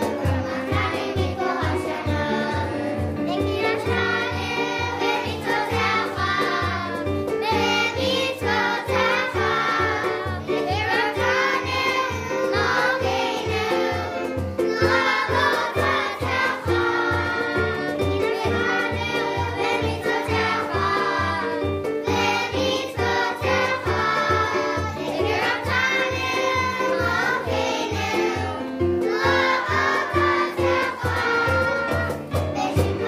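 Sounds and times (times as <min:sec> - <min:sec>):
children singing together: 0:00.0 - 0:33.0.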